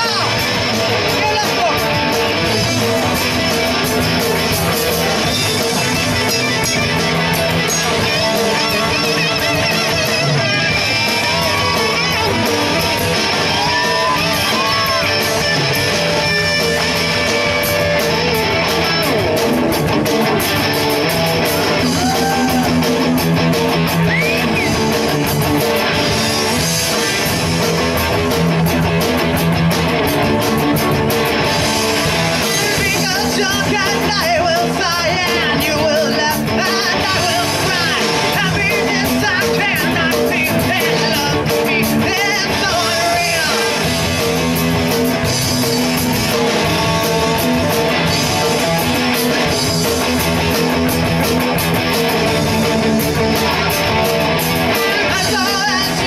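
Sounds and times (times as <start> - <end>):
electric guitar: 0.0 - 56.0
rock band playing: 0.0 - 56.0.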